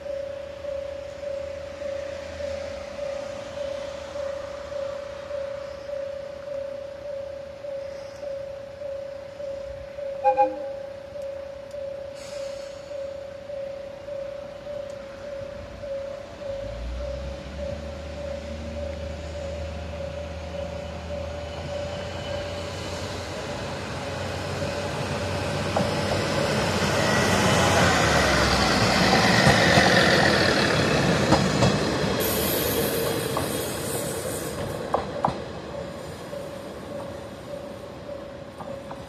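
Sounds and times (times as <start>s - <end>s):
diesel railcar passing: 0.0s - 39.0s.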